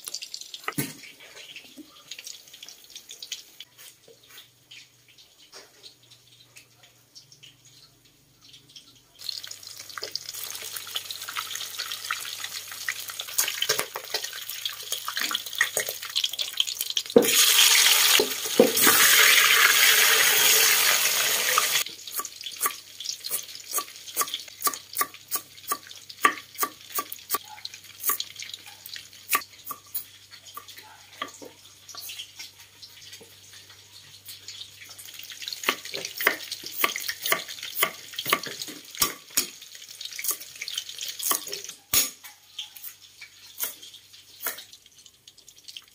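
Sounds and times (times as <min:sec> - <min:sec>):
fish sizzling in hot oil: 0:00.0 - 0:06.4, 0:07.2 - 0:45.9.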